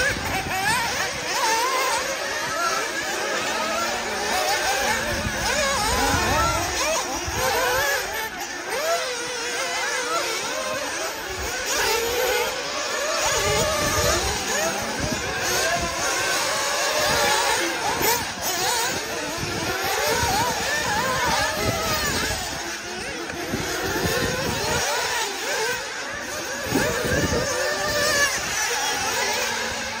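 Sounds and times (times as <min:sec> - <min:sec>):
rc car engines revving: 0:00.0 - 0:30.0.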